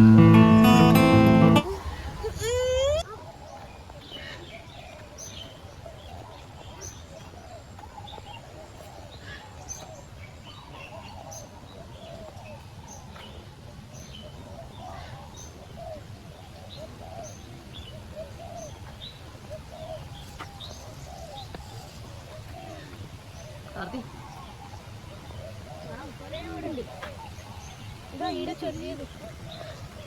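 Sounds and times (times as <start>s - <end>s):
birds chirping and calling: 0.0s - 30.0s.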